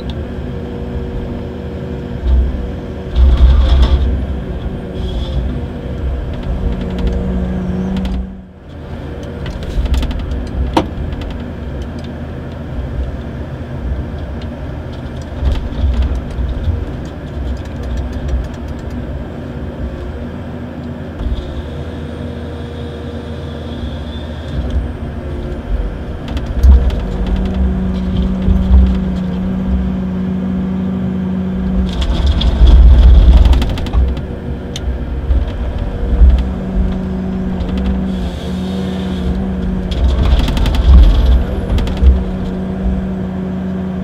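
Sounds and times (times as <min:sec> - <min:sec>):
engine and hydraulics running: 0:00.0 - 0:44.0.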